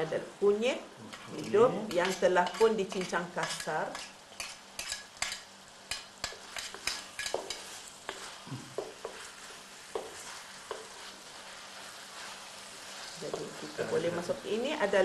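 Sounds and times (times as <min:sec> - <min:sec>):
food sizzling in oil: 0:00.0 - 0:15.0
wooden spatula scraping wok: 0:01.1 - 0:15.0.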